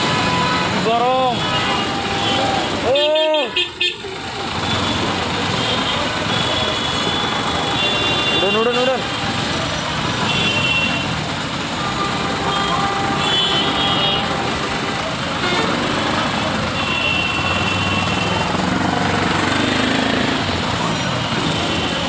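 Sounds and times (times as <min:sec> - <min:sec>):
busy road traffic: 0:00.0 - 0:22.0.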